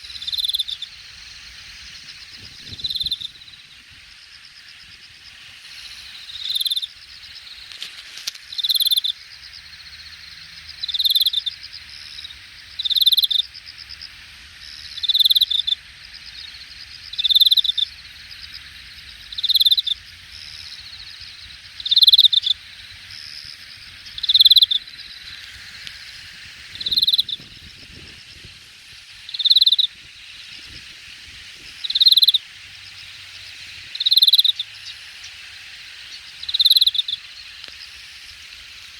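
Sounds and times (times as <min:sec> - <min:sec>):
insect chorus trilling: 0:00.0 - 0:38.9
loud insect call: 0:00.0 - 0:38.9.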